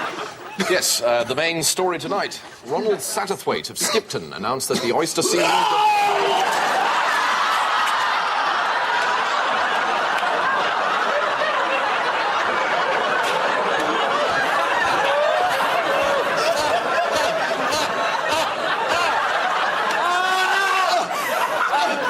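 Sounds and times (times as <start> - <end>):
audience laughing: 0.0 - 1.4, 3.9 - 22.0.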